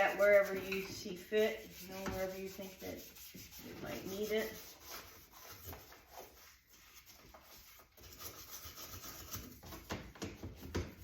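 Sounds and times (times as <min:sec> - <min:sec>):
toothbrush scrubbing: 0:00.0 - 0:09.9.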